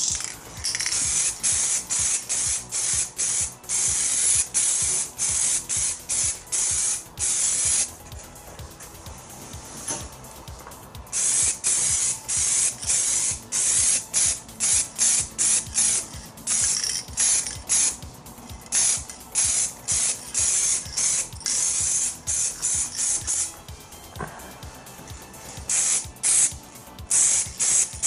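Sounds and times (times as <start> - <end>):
spray-paint can spraying: 0.0 - 28.0.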